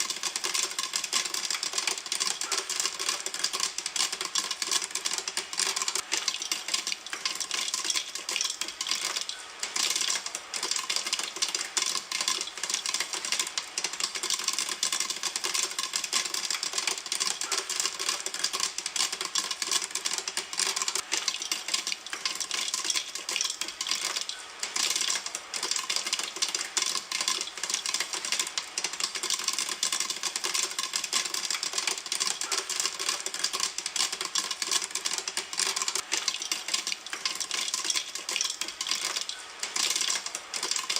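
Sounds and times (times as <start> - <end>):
popcorn popping in a pan: 0.0 - 40.9.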